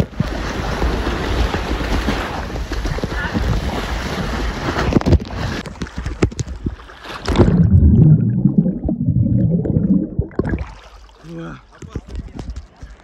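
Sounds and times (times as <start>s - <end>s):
water sloshing and gurgling: 0.0s - 13.0s.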